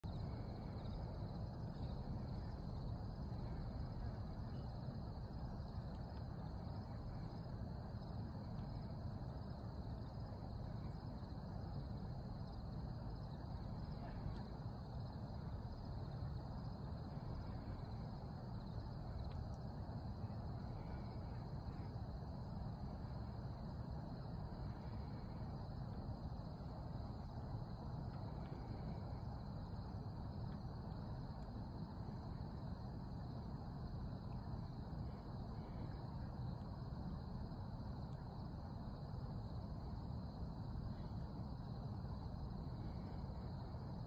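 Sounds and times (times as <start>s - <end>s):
insects chirping: 0.0s - 44.0s.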